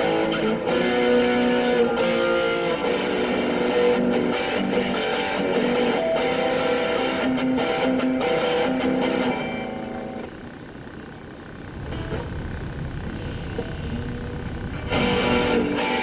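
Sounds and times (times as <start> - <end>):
faint picked guitar notes: 0.0 - 10.3, 11.8 - 12.4, 13.2 - 16.0
distorted electric guitar chords: 0.0 - 10.5, 11.6 - 16.0
amp noise: 0.0 - 16.0.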